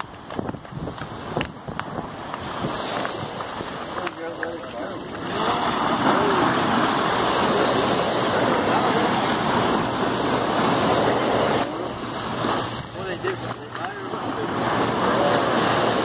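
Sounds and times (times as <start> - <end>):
surf washing up beach: 0.0 - 16.0.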